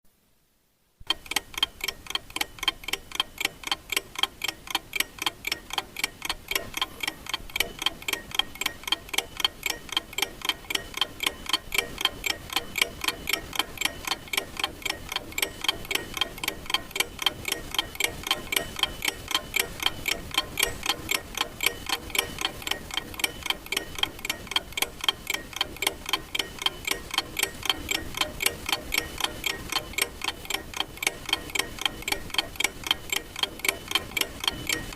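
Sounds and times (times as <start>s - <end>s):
clock ticking: 1.0s - 34.9s.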